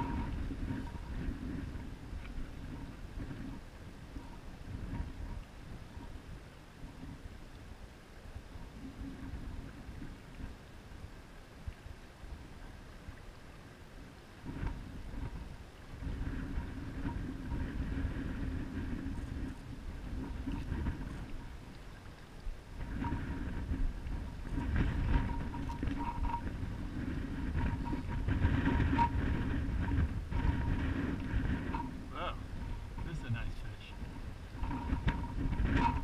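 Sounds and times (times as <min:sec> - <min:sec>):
water lapping at boat hull: 0:00.0 - 0:36.0
wind buffeting microphone: 0:00.0 - 0:36.0.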